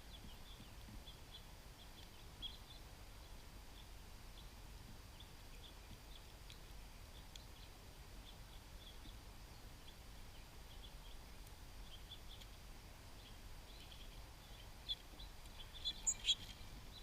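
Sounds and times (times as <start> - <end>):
songbirds chipping: 0.0 - 17.0.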